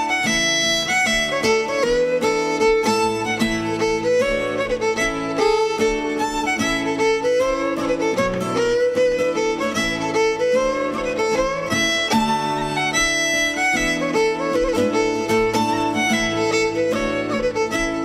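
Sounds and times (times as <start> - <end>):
fiddle playing dance tune: 0.0 - 18.0
plucked accompaniment: 0.0 - 18.0.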